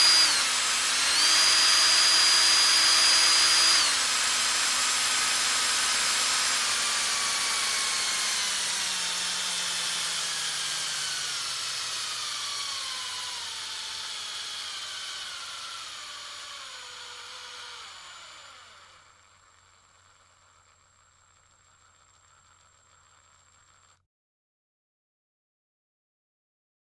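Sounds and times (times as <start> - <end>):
drill motor spinning down: 0.0 - 24.0.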